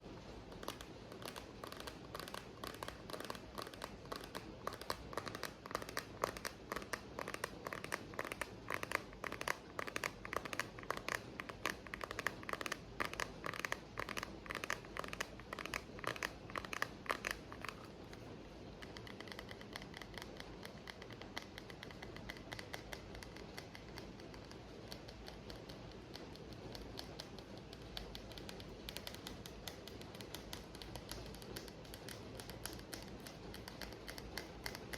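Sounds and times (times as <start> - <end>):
rapid tapping on an object: 0.0 - 34.9.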